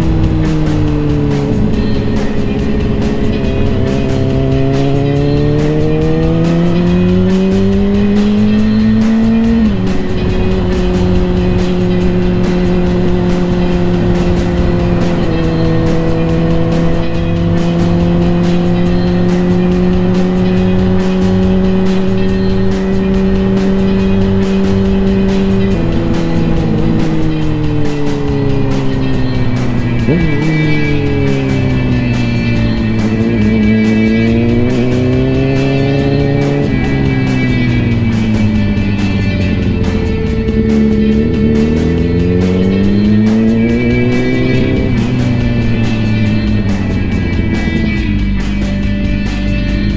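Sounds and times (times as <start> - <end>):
background music: 0.0 - 49.9
motorcycle engine accelerating: 0.0 - 49.9.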